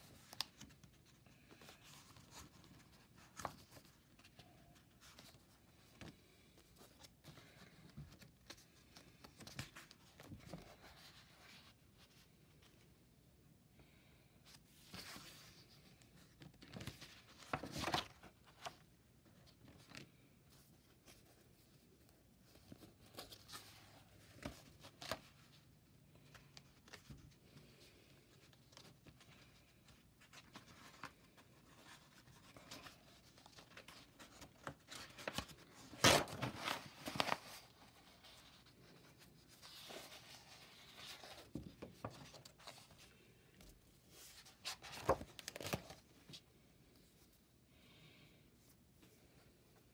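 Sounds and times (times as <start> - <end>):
paper rustling: 0.0 - 12.9, 14.8 - 46.4.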